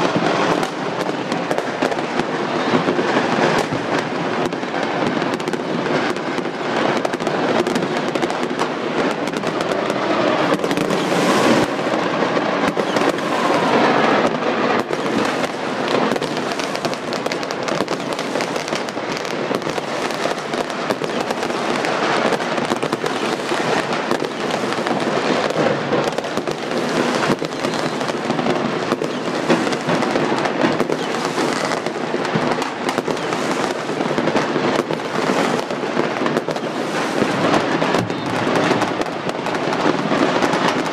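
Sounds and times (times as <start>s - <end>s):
fireworks and firecrackers popping: 0.0s - 40.9s.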